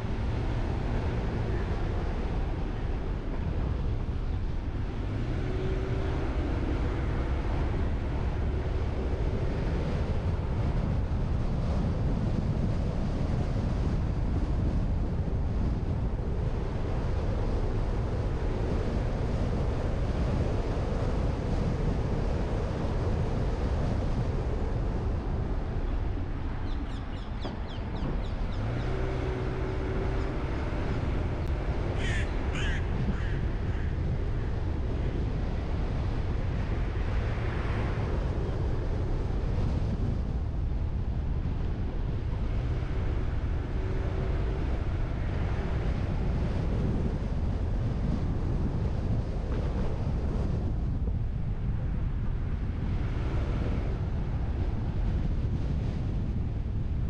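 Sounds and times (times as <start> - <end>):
car driving rumble: 0.0 - 57.0
wind on microphone: 0.0 - 57.0.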